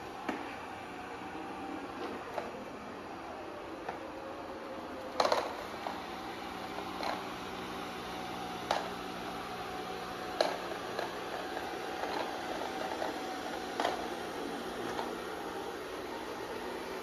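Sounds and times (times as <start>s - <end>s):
robot vacuum cleaner humming: 0.0s - 17.0s.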